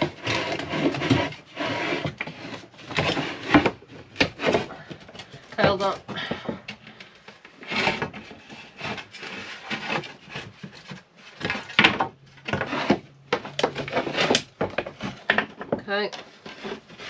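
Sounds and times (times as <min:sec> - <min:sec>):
wood scraping and knocking: 0:00.0 - 0:17.0.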